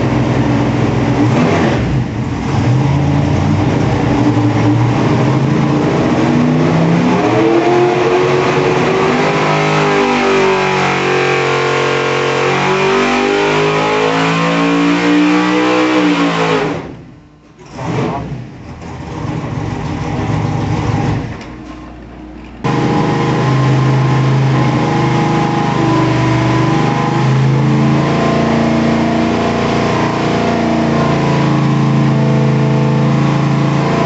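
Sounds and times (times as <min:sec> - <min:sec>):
engine running hard on a dyno: 0:00.0 - 0:34.0.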